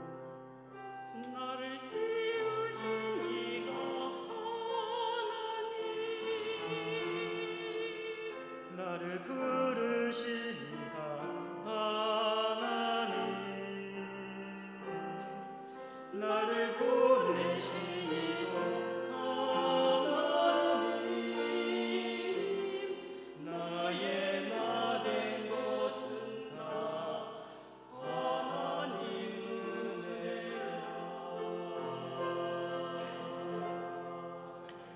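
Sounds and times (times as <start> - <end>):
classical-style singing: 0.0 - 34.9.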